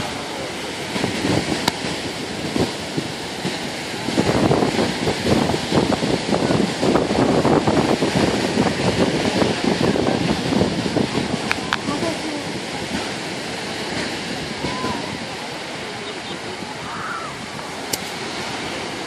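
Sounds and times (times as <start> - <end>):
small waves breaking on beach: 0.0 - 19.0
wind on microphone: 0.0 - 19.0.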